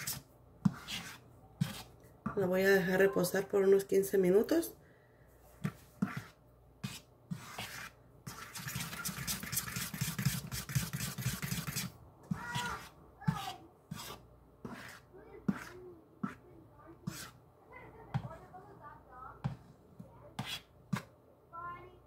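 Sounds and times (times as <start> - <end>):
spoon stirring batter: 0.0 - 4.6, 5.4 - 18.6, 19.4 - 21.2.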